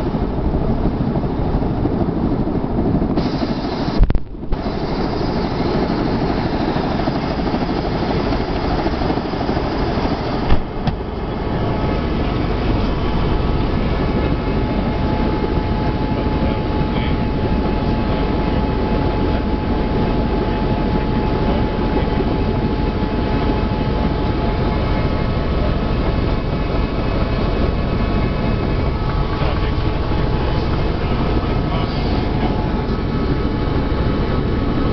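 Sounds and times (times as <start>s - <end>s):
helicopter turbine and rotor: 0.0s - 34.9s.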